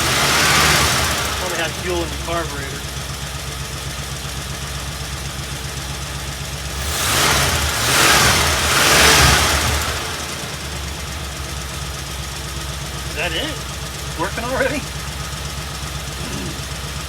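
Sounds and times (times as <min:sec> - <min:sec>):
pickup engine idling and revving: 0:00.0 - 0:17.0.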